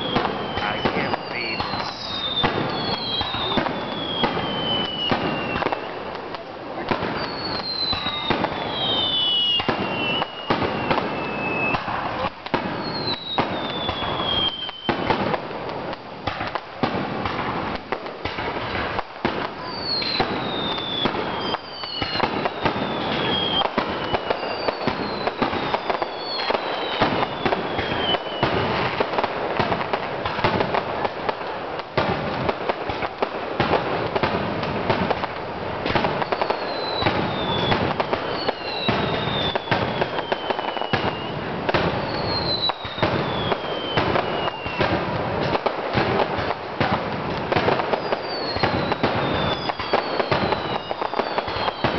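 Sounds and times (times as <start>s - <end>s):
falling firework whistles: 0.0s - 6.2s, 6.8s - 51.9s
firework bursts and crackling: 0.0s - 51.9s.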